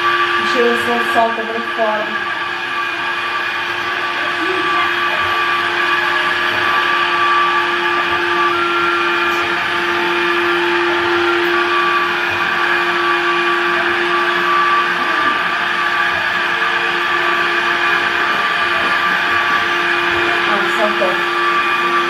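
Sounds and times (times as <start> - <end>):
vacuum fan motor whine: 0.0 - 22.0.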